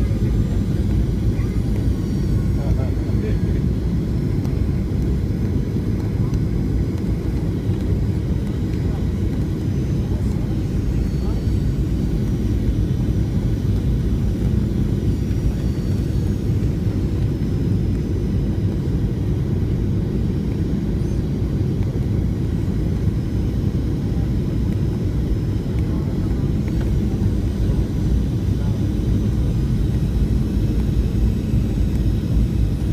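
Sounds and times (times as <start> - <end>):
airplane cabin engine rumble: 0.0 - 32.9.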